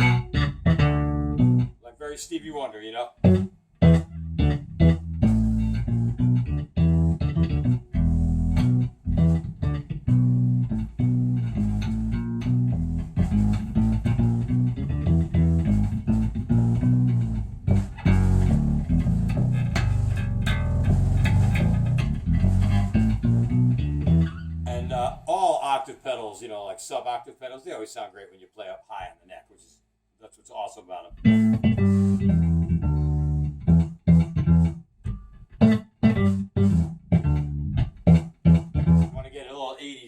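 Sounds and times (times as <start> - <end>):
electric bass with sub-octave fuzz: 0.0 - 1.8, 3.2 - 25.2, 31.1 - 39.4.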